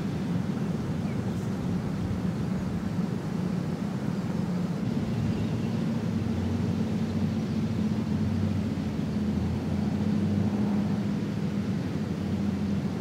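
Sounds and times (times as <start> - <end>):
constant engine-like hum: 0.0 - 13.0
distant traffic rumble: 0.0 - 13.0.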